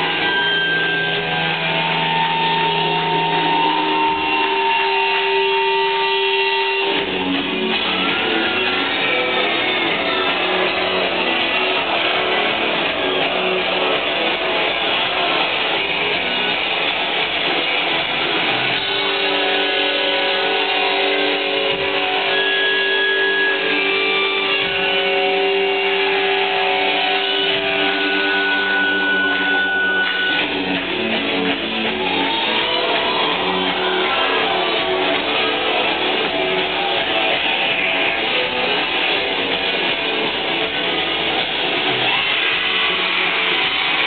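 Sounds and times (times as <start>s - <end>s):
bass and drums: 0.0s - 44.0s
electric guitars: 0.0s - 44.0s
live rock band: 0.0s - 44.0s.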